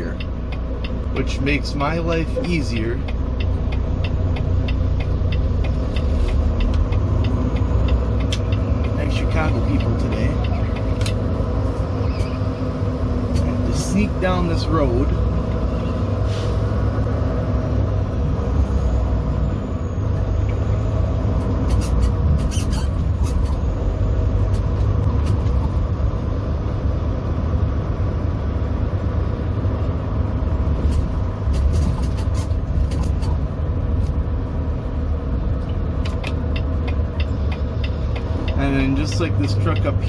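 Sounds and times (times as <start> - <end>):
truck diesel engine rumble: 0.0 - 40.0.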